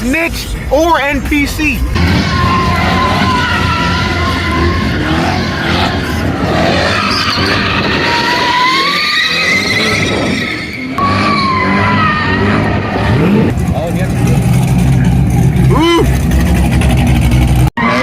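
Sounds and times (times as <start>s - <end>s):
low rumble of engines: 0.0s - 18.0s
car tyres squealing: 2.0s - 18.0s.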